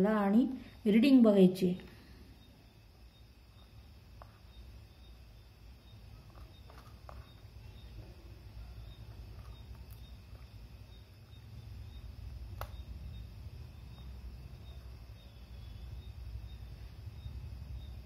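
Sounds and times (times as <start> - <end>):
low steady hum: 0.0 - 18.0
faint high chirps: 1.6 - 18.0.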